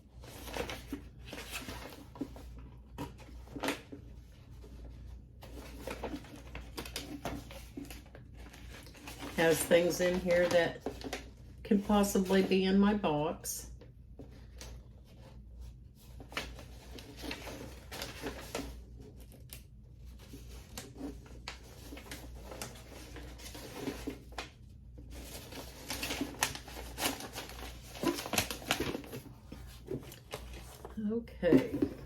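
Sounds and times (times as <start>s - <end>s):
paper packaging rustling: 0.0s - 12.7s, 14.2s - 32.0s.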